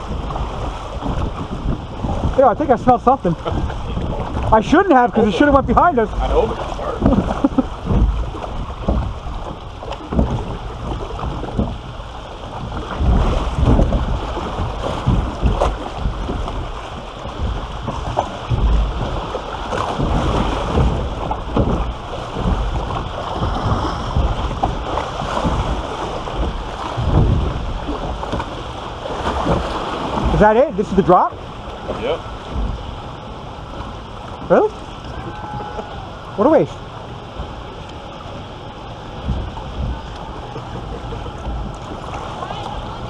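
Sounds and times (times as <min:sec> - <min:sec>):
water rushing and sloshing: 0:00.0 - 0:43.0
wind buffeting microphone: 0:00.0 - 0:43.0.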